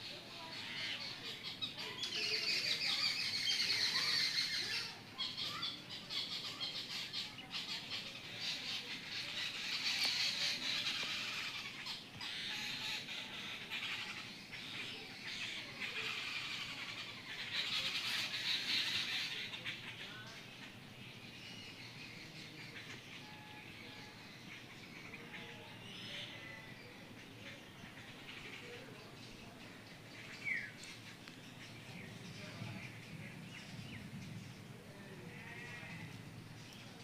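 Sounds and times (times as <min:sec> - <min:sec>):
chorus of birds chirping: 0:00.0 - 0:37.0.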